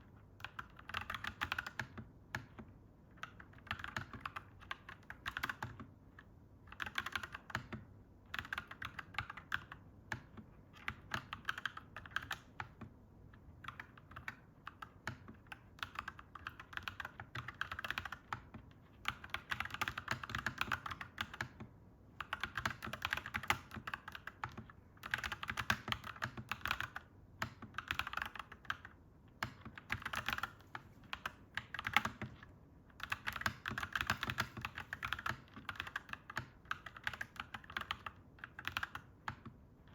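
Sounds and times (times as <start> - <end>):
mechanical keyboard typing: 0.1 - 39.9.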